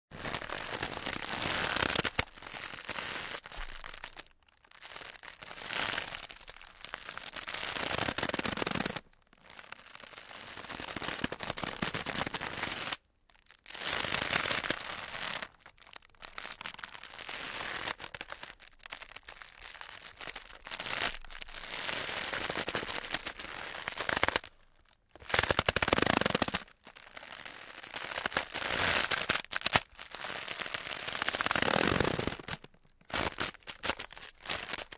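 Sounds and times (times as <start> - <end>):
wicker creaking and crackling: 0.1 - 34.9.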